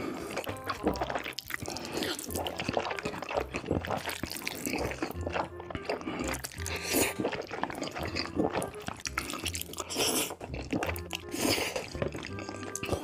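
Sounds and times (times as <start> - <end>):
noodle slurp: 0.0 - 13.0
wet chewing of noodles: 0.0 - 13.0.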